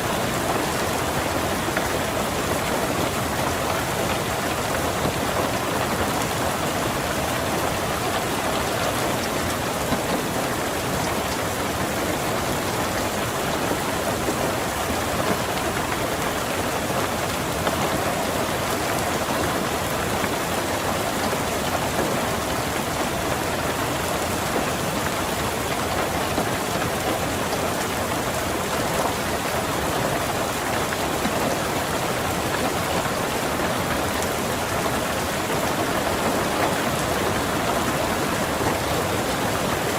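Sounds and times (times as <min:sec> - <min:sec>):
rain drumming on car roof: 0:00.0 - 0:39.9.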